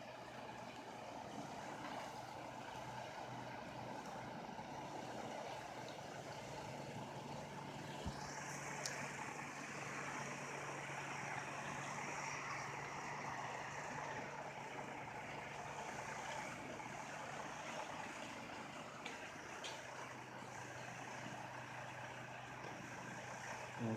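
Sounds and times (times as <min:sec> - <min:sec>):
truck engine low hum: 0:00.0 - 0:23.9.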